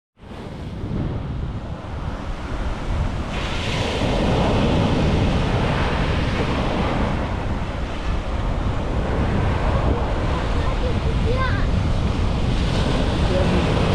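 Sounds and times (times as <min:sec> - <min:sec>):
ocean surf breaking on beach: 0:00.2 - 0:13.9
wind buffeting microphone: 0:00.2 - 0:13.9.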